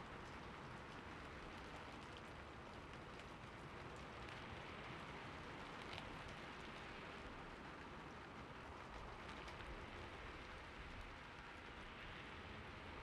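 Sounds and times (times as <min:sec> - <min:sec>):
raindrop ticks: 0:00.0 - 0:11.8
steady rain hiss: 0:00.0 - 0:13.0.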